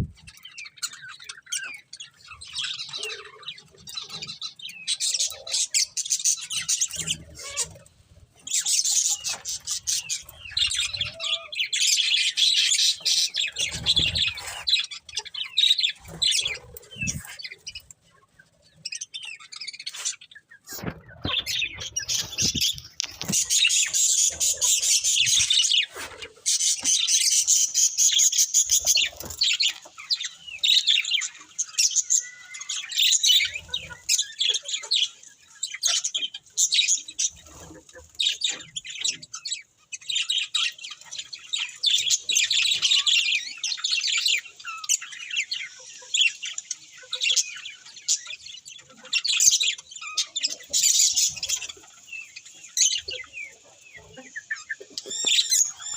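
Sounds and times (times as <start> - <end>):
budgerigars chirping and warbling: 0.0 - 55.9.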